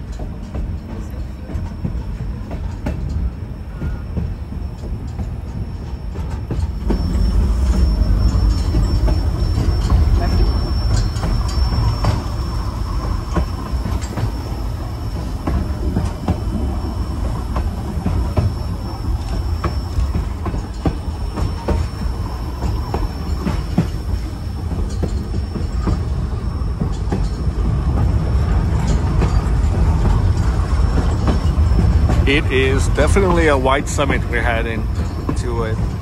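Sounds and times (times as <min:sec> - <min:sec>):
train rumbling: 0:00.0 - 0:36.0
train wheels clicking: 0:00.0 - 0:36.0.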